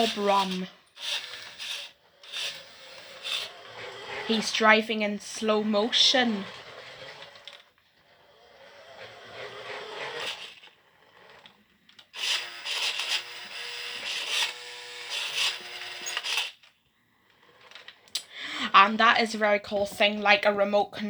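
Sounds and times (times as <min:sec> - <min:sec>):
toy car motor whirring: 0:00.0 - 0:19.2.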